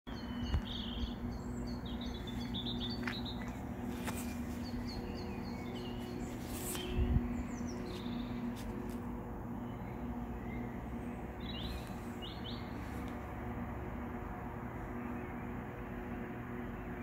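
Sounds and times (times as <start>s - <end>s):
songbirds chirping: 0.1s - 17.0s
steady low hum: 0.1s - 17.0s.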